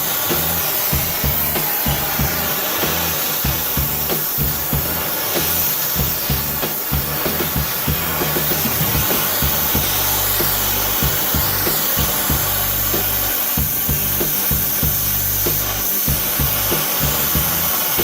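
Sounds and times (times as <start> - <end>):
continuous rushing noise: 0.0 - 18.0
music with drum beat and bass: 0.0 - 18.0.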